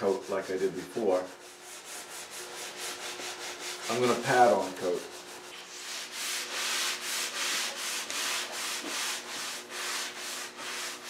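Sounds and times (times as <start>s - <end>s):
cloth rubbing on wood: 0.0s - 11.0s.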